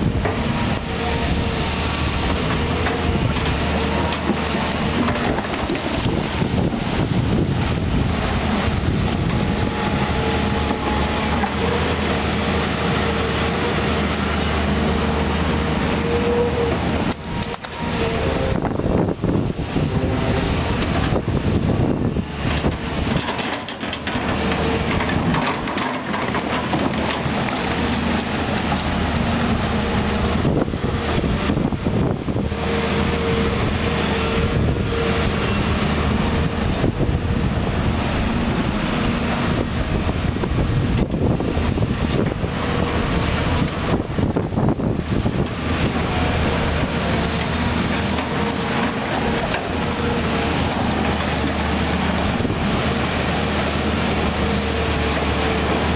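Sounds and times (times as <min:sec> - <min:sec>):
excavator diesel engine under load: 0:00.0 - 0:55.9.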